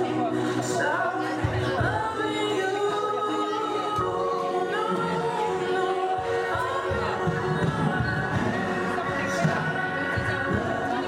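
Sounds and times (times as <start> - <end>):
line-dance music with vocals: 0.0 - 11.0.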